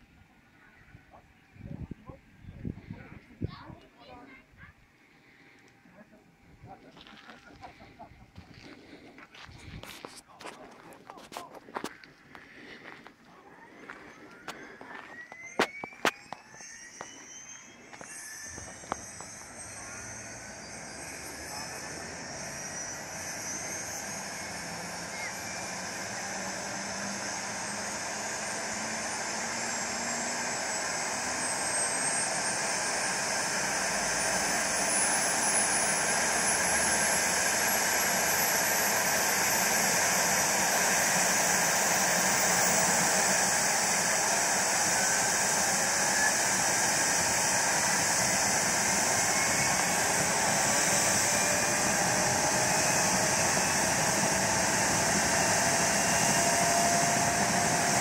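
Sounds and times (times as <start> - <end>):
helicopter turbine whine: 0.0 - 58.0
lower turbine whines: 0.0 - 58.0.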